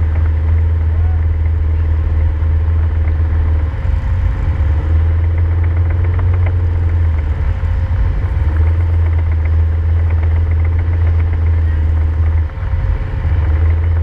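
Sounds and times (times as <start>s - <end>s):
utility vehicle engine droning: 0.0s - 14.0s.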